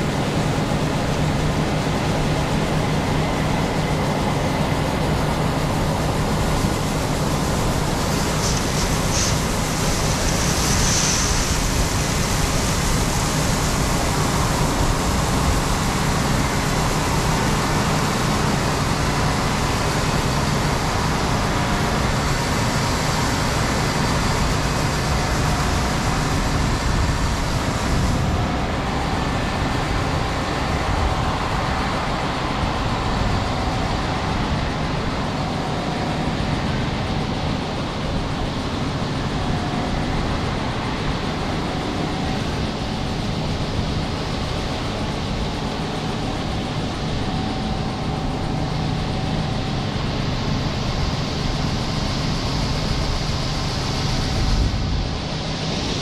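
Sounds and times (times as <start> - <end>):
harvest machinery running: 0.0 - 56.0.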